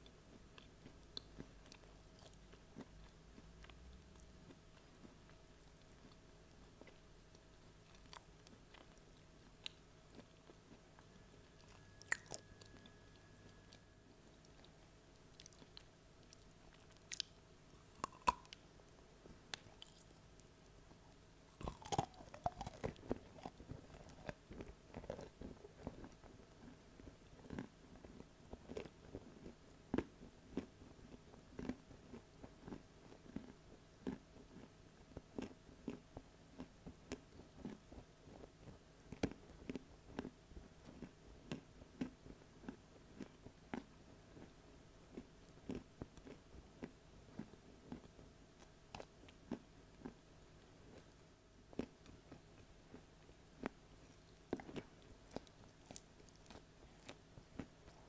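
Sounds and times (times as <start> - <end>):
clay crunching being chewed: 0.0 - 58.0.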